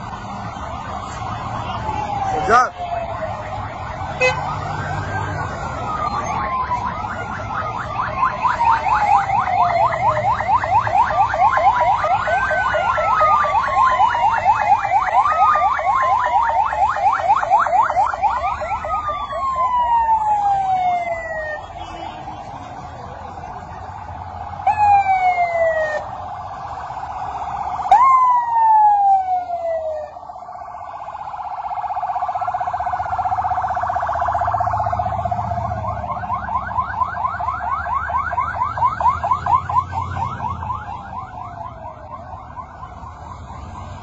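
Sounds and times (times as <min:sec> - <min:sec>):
electronic sirens: 0:00.0 - 0:44.0.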